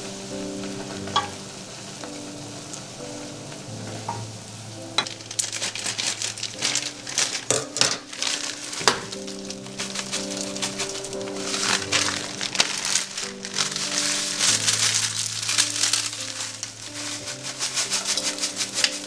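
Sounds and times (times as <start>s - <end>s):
soft background music: 0.0s - 19.0s
vegetables sizzling in a frying pan: 0.0s - 19.0s.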